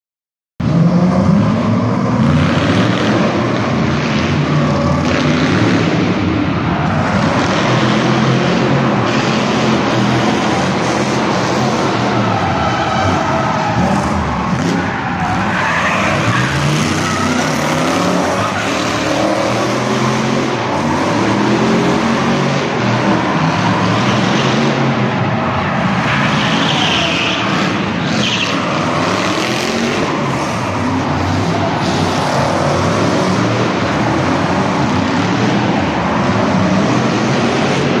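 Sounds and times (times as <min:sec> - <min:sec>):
car engines revving: 0:00.6 - 0:38.0.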